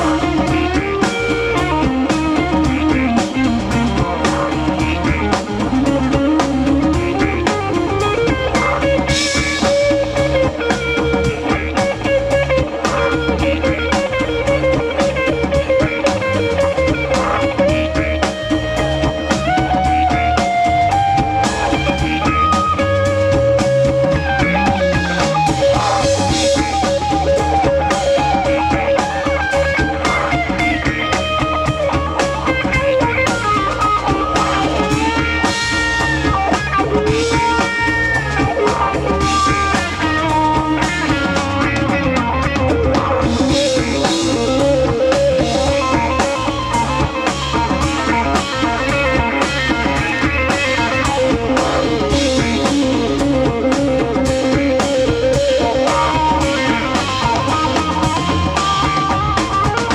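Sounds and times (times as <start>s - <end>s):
bass guitar: 0.0s - 59.9s
didgeridoo droning: 0.0s - 59.9s
drum kit: 0.0s - 59.9s
electric guitar lead lines: 0.0s - 59.9s.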